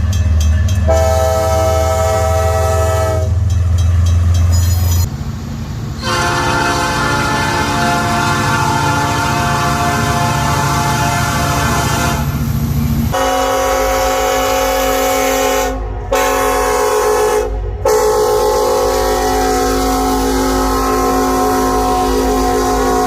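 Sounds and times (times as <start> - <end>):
locomotive air horns: 0.8 - 3.4, 6.0 - 12.4, 13.1 - 23.0.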